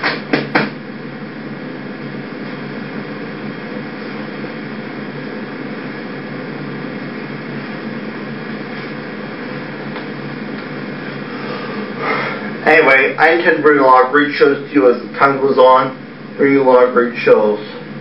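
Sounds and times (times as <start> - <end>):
low hum: 0.0 - 18.0
steady background hiss: 0.0 - 18.0.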